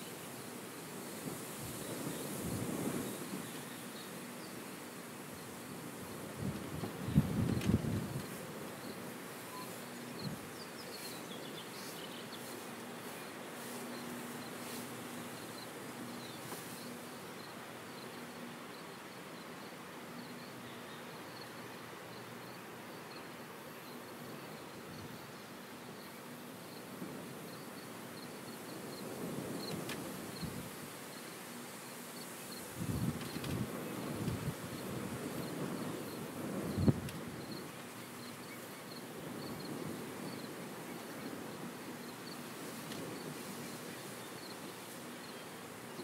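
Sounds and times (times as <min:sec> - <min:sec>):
high insect chirping: 0:00.0 - 0:46.0
insect buzz: 0:00.0 - 0:46.0.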